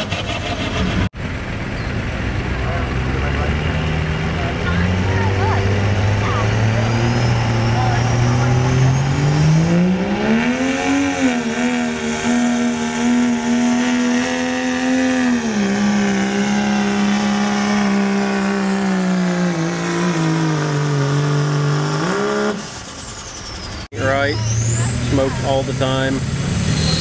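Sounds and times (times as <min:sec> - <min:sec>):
diesel engine at high revs: 0:00.0 - 0:27.0.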